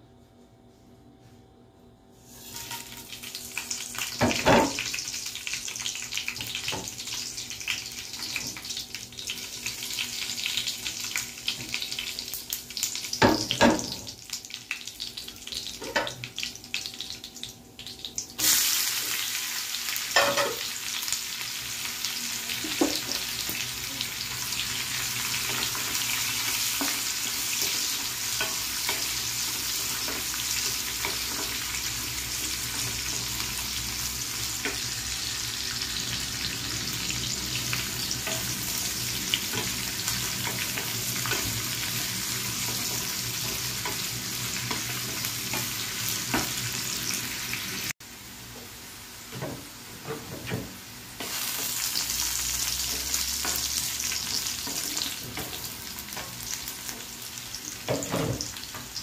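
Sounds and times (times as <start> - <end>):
onions sizzling: 2.2 - 59.0
spices sizzling in hot oil: 2.2 - 59.0.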